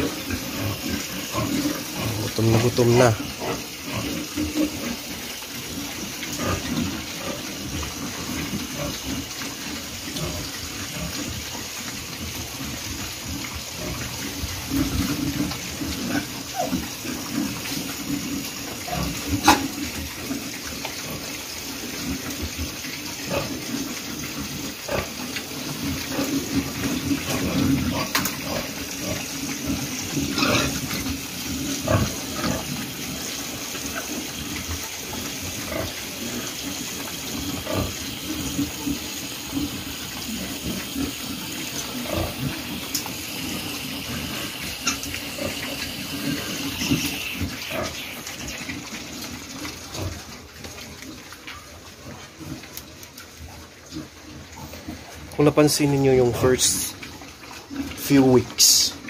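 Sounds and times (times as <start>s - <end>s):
pigs slurping and chomping: 0.0s - 59.0s.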